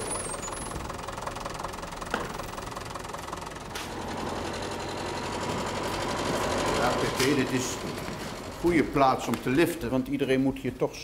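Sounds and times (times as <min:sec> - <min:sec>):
vehicle engine running: 0:00.0 - 0:10.1.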